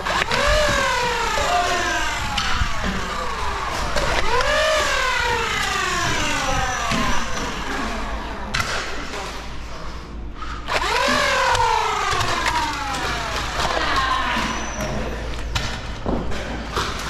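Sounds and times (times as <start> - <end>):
blaster flywheel motors whining: 0.0 - 9.6, 10.5 - 16.0.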